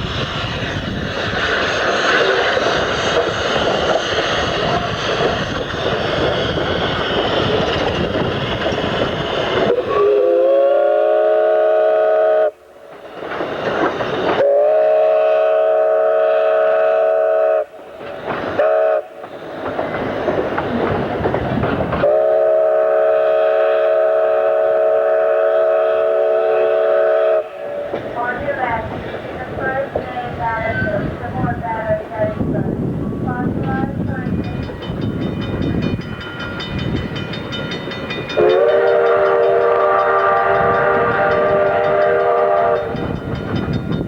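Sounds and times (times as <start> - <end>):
steam locomotive running: 0.0 - 44.0.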